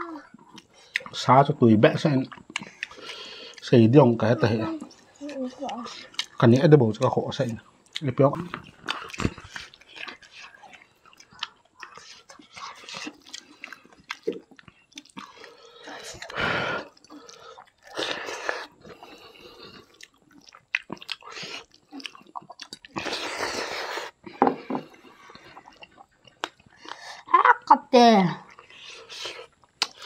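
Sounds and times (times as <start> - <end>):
chewing and lip-smacking: 0.2 - 1.2, 2.2 - 3.8, 4.6 - 27.3, 28.4 - 30.0.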